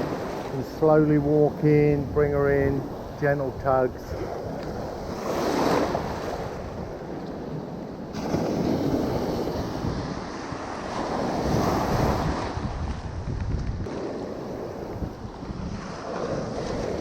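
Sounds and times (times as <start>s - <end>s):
ocean surf washing in: 0.0s - 17.0s
wind rumbling on microphone: 0.0s - 17.0s.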